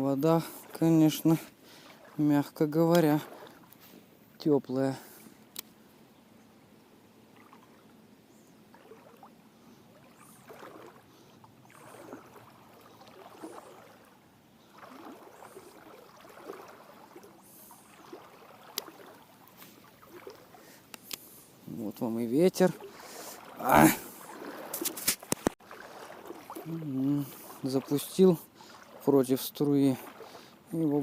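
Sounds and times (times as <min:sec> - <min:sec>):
wading through river water: 0:00.0 - 0:31.0.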